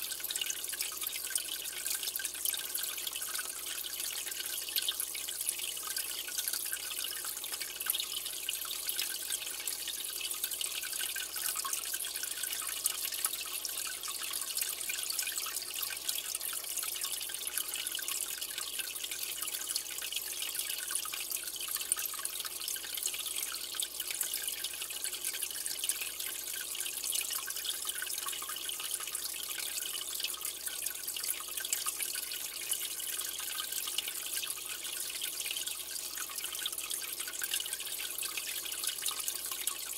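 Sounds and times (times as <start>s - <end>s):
aquarium water trickling and dripping: 0.0s - 39.9s.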